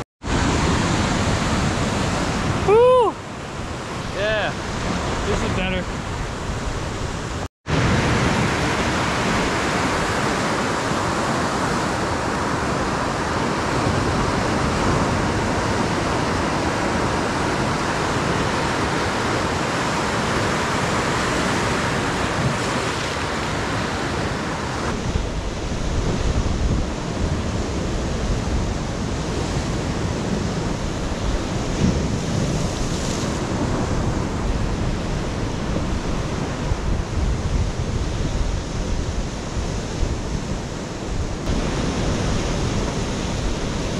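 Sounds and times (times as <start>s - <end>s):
ocean surf breaking: 0.0s - 43.9s
wind on microphone: 0.2s - 43.9s.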